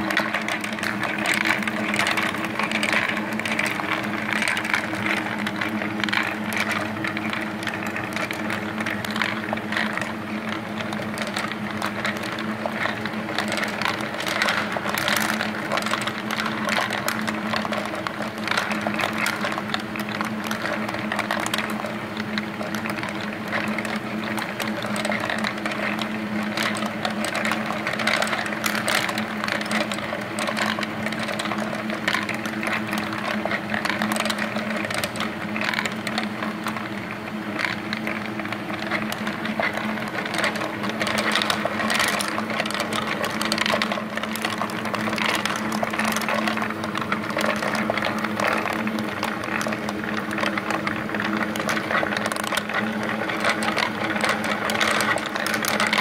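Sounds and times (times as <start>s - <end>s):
ball bearings clattering on wood: 0.0s - 56.0s
motor and gear hum: 0.0s - 56.0s.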